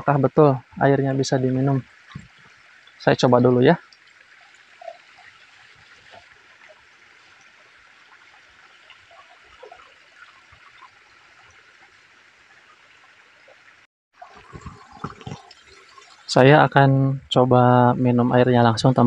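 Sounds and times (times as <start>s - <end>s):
stream of water splashing: 0.0s - 17.5s
spring water trickling over rocks: 0.1s - 17.6s.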